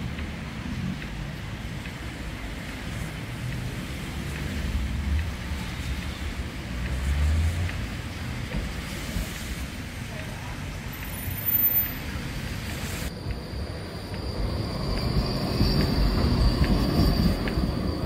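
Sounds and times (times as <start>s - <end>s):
tram rumbling: 0.0s - 18.0s.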